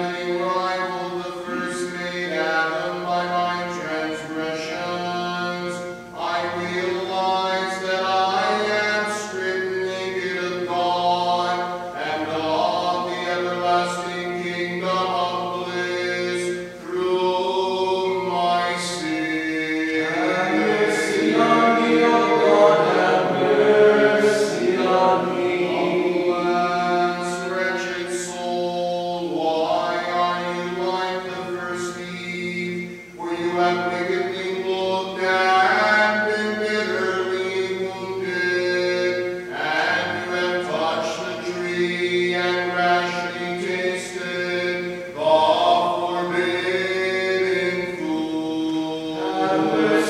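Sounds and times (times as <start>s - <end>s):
men singing chant a cappella: 0.0s - 50.0s.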